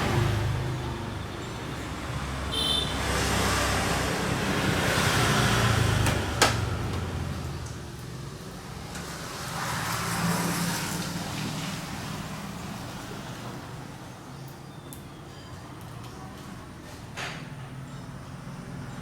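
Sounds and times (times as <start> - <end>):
road traffic passing: 0.0 - 14.6, 15.2 - 19.0.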